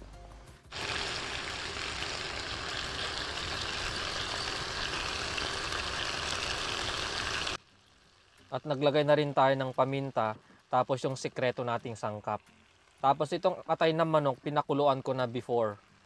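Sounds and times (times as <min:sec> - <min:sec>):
chicken sizzling in a pot: 0:00.7 - 0:16.0.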